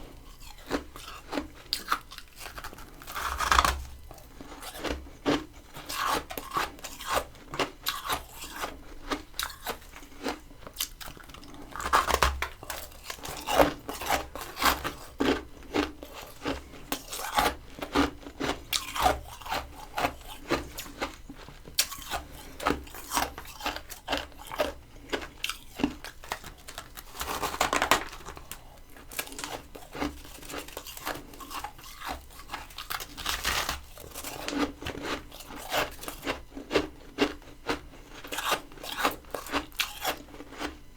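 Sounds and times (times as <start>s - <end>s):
frost being bitten and chewed: 0.0s - 40.9s.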